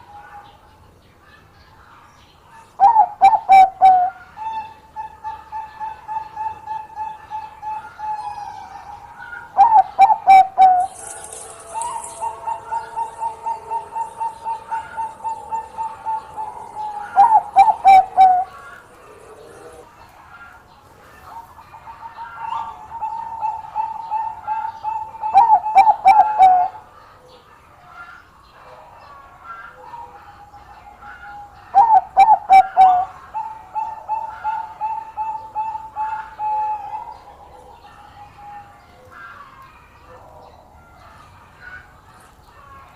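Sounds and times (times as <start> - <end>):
dove cooing: 2.7 - 27.5, 28.6 - 39.5.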